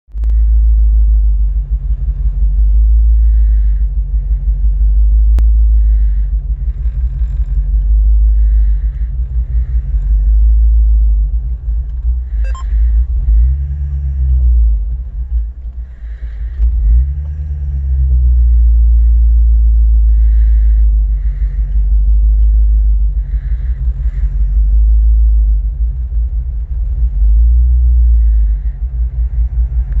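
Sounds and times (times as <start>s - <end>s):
engine idling roughly: 0.1s - 30.0s.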